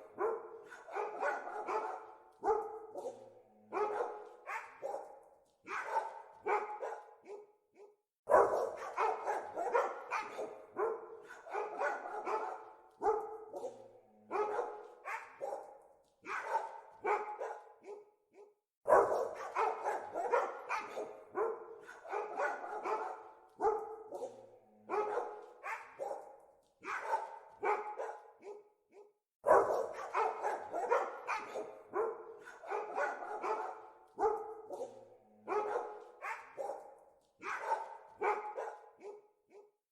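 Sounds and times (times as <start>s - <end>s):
dogs barking: 0.0s - 39.8s.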